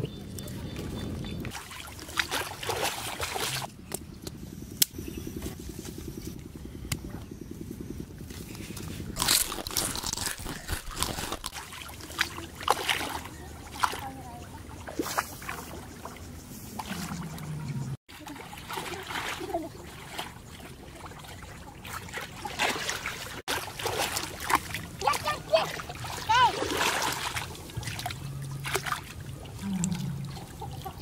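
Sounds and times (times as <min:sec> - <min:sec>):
water splashing and sloshing: 0:00.0 - 0:04.4, 0:08.1 - 0:31.0.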